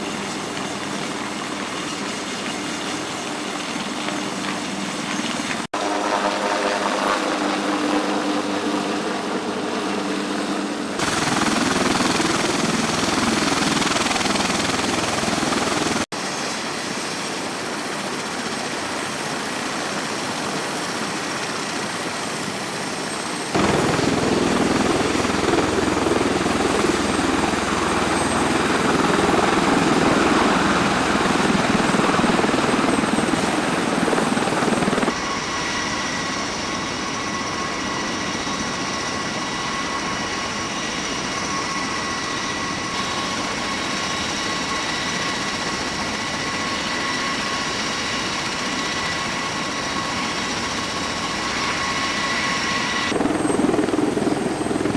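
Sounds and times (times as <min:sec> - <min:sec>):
helicopter engines and rotor: 0:00.0 - 0:54.9
high-pitched turbine whine: 0:00.0 - 0:54.9.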